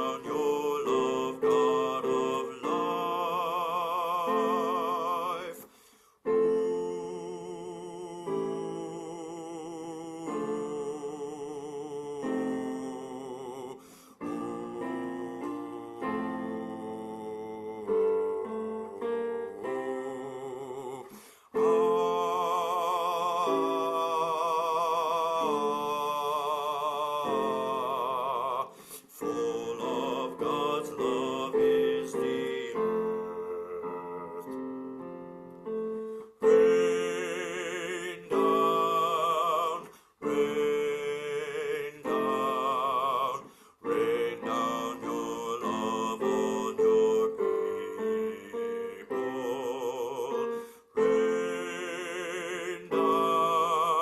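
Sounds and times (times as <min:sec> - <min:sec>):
person singing a hymn: 0:00.0 - 0:54.0
piano accompaniment: 0:00.0 - 0:54.0.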